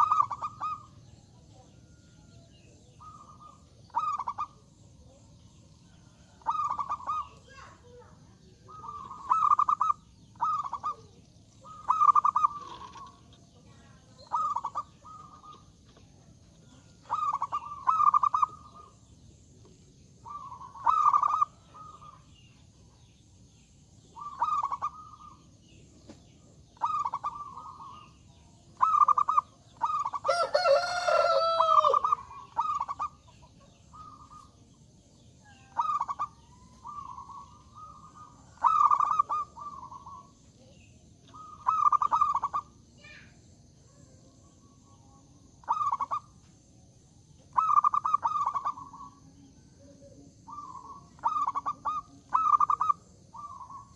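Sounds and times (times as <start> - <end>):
bird call: 0.0 - 4.7, 5.6 - 19.1, 20.2 - 23.1, 24.1 - 34.7, 35.4 - 46.5, 47.4 - 53.9
dove cooing: 0.0 - 5.3, 5.9 - 19.0, 20.2 - 22.6, 24.0 - 25.5, 26.7 - 43.1, 44.6 - 46.3, 47.5 - 53.9.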